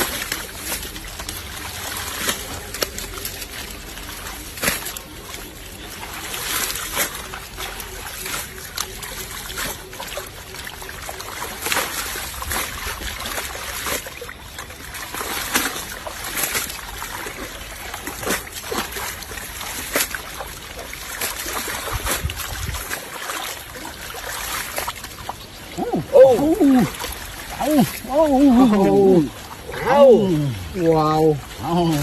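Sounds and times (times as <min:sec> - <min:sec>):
water splashing and trickling: 0:00.0 - 0:32.0.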